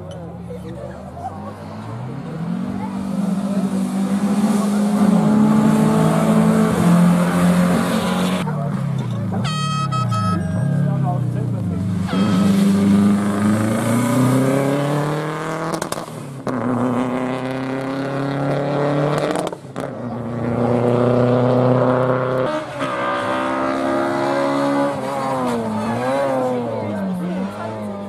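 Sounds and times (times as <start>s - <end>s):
rally car engine accelerating: 0.7s - 9.4s, 10.8s - 28.0s.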